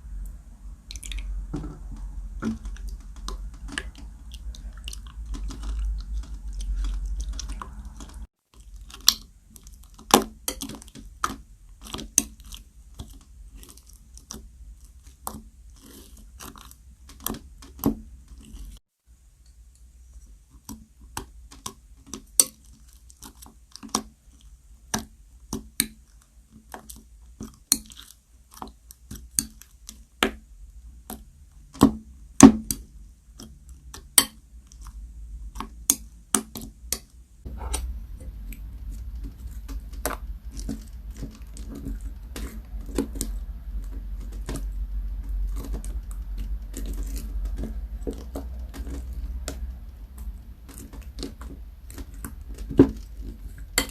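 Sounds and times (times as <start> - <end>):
slime stirring with crackles: 0.0 - 53.9.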